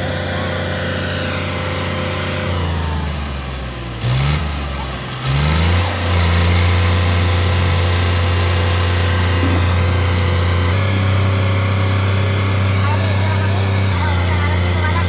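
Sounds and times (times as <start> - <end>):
tractor diesel engine straining: 0.0 - 15.0.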